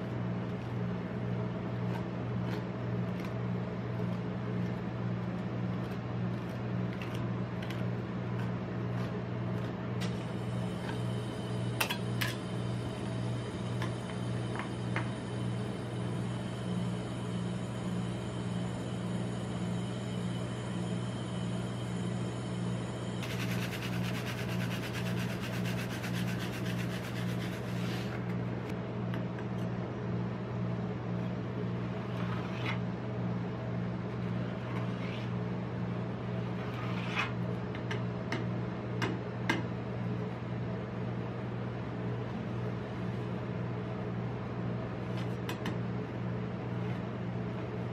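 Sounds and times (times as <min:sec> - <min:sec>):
ice cream machine humming: 0:00.0 - 0:47.9.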